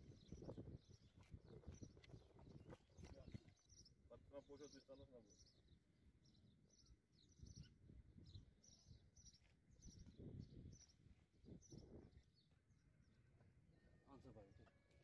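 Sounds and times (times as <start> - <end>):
small bird chirping: 0.0 - 12.5.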